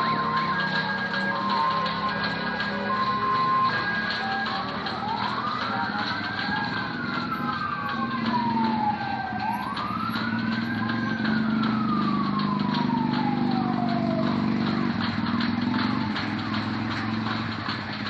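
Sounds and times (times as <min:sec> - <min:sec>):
traffic drone: 0:00.0 - 0:18.0
wailing siren: 0:00.0 - 0:18.0.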